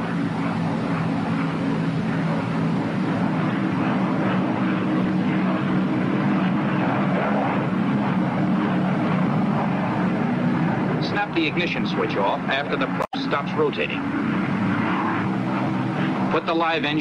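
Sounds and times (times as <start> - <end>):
aircraft piston engine drone: 0.0 - 17.0.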